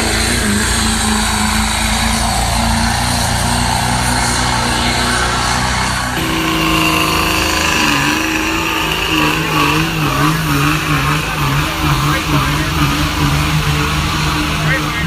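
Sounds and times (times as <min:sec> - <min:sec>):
truck engine under load: 0:00.0 - 0:15.0.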